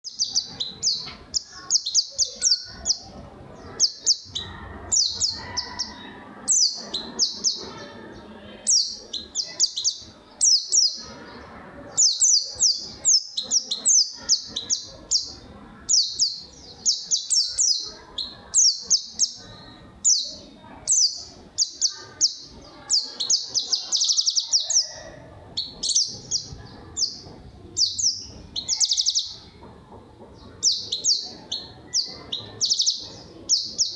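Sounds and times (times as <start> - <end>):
songbird chirping: 0.0 - 33.9
faint low murmur: 0.1 - 33.9.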